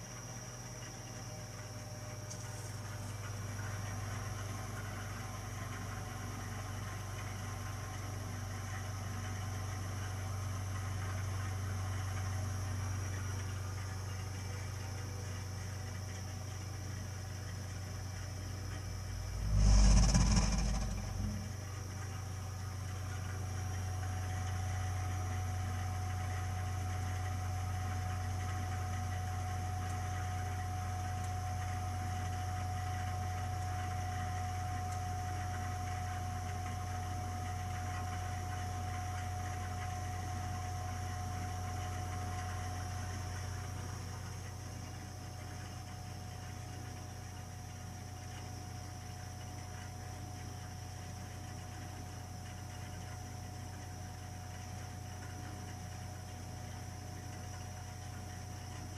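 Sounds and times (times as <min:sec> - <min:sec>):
boiler humming: 0:00.0 - 0:58.9
boiler whine: 0:00.0 - 0:58.9.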